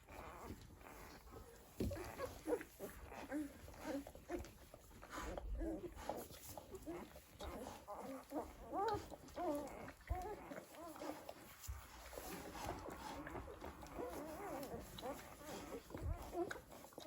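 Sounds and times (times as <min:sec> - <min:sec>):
puppies squeaking and whimpering: 0:00.0 - 0:17.0.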